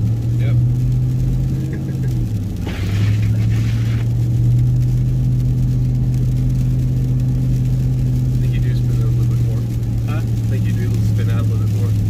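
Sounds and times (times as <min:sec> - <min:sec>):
truck engine running while driving: 0:00.0 - 0:12.0.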